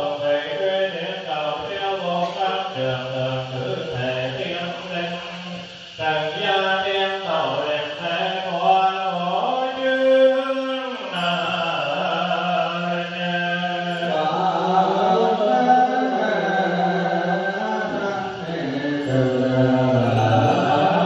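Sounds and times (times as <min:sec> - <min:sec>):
voices chanting: 0:00.0 - 0:21.0.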